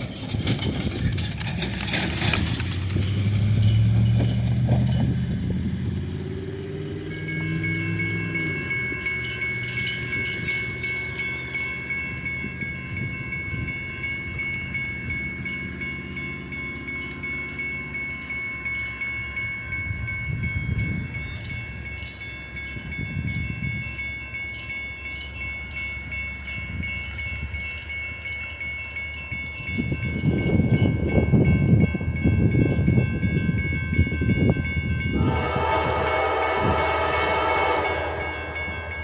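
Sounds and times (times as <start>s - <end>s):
diesel train rumble: 0.0s - 39.0s
railroad bell ringing: 0.0s - 39.0s.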